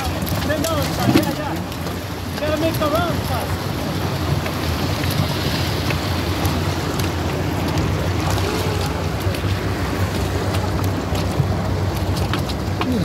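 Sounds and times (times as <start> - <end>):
sea noise: 0.0 - 13.0
wind: 0.0 - 13.0.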